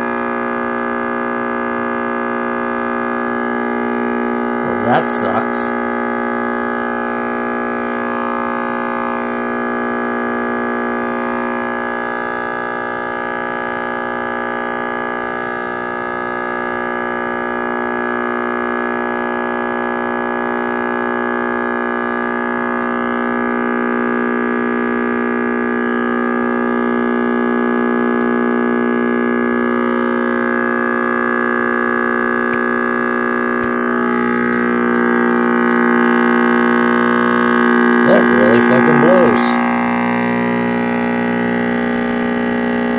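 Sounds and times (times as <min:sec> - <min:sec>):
tube radio buzzing hum: 0:00.0 - 0:42.9.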